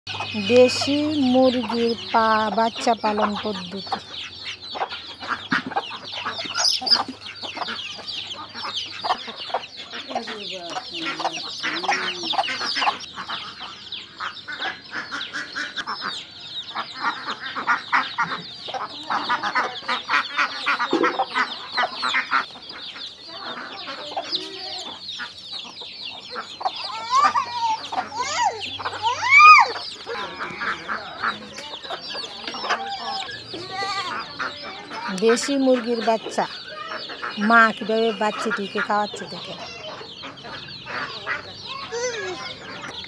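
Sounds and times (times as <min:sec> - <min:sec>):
chicks peeping: 0:00.1 - 0:43.0
hen clucking: 0:00.1 - 0:43.0.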